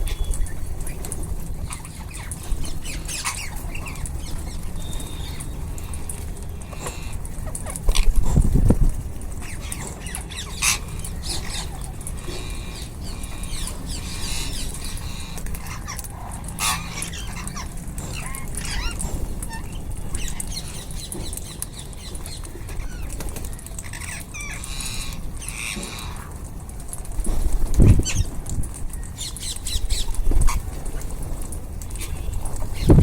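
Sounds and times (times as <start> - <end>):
parrots chirping and squawking: 0.0 - 33.0.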